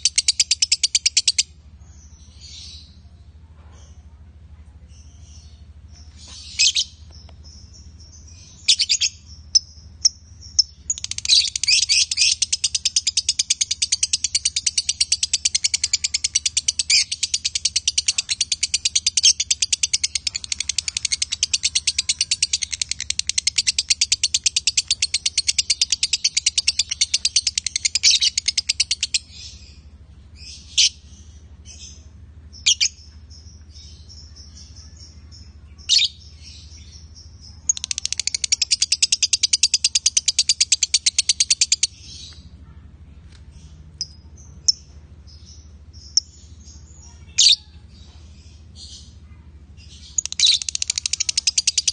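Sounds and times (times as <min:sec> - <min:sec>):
lovebird chirping: 0:00.0 - 0:03.2, 0:04.9 - 0:42.5, 0:43.6 - 0:51.9.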